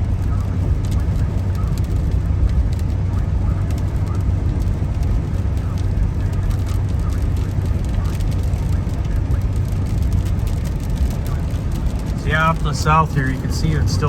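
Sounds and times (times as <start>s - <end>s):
car cabin road and engine noise: 0.0s - 14.0s.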